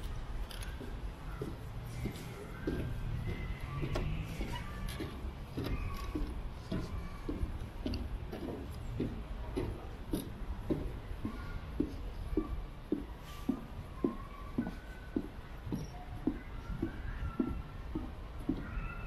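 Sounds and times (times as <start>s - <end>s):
footsteps on wooden planks: 0.0s - 19.0s.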